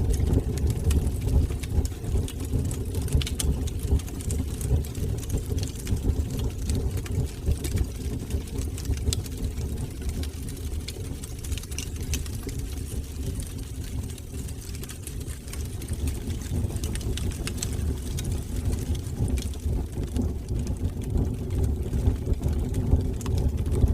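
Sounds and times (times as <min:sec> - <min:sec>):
fire crackling and popping: 0:00.0 - 0:23.9
fire rumbling in fireplace: 0:00.0 - 0:23.9.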